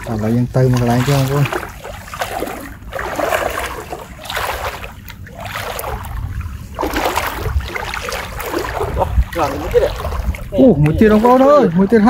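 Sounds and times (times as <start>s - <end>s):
steady low rumble: 0.0s - 12.0s
water splashing and sloshing: 0.0s - 12.0s.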